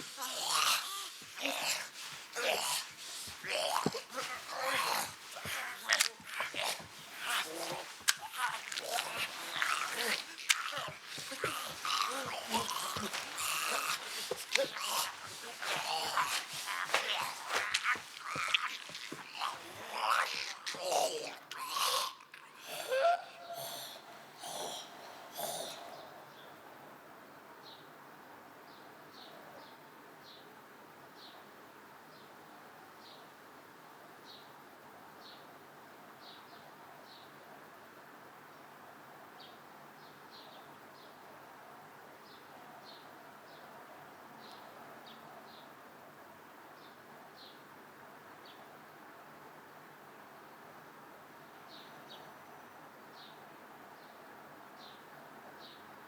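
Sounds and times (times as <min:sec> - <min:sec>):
background hiss: 0:00.0 - 0:56.0
faint outdoor ambience: 0:00.0 - 0:56.0.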